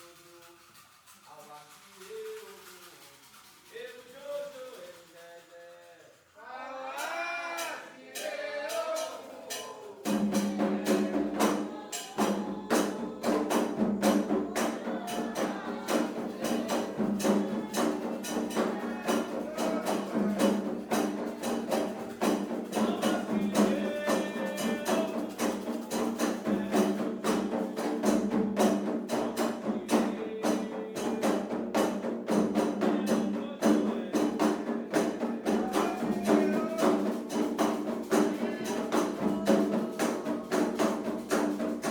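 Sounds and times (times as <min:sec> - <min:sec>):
fast percussion beat: 0:00.0 - 0:41.9
voices singing: 0:01.7 - 0:41.9.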